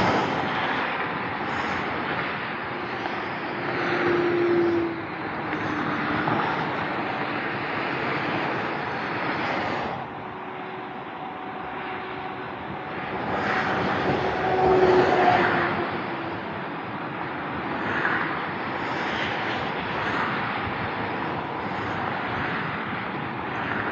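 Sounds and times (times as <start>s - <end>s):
highway traffic passing at speed: 0.0s - 23.9s.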